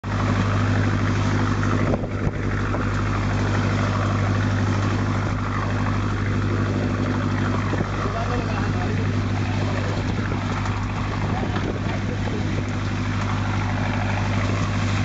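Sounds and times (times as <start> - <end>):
boat engine droning: 0.0 - 15.0
wake water hissing: 0.1 - 15.0.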